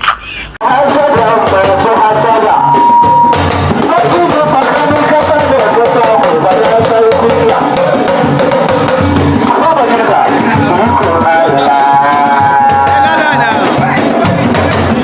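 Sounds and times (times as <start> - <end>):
drums and percussion beat: 0.6 - 15.0.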